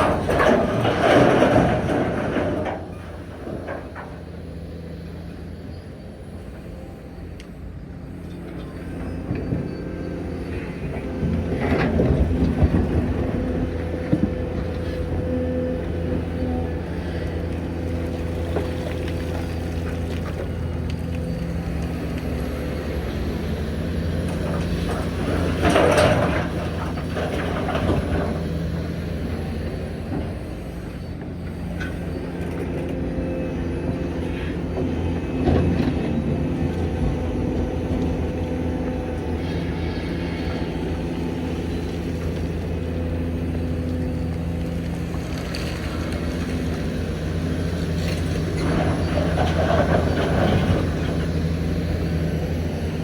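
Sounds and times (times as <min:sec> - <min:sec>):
clattering and rumbling: 0:00.0 - 0:05.1, 0:09.1 - 0:53.0
excavator diesel engine running: 0:00.0 - 0:53.0.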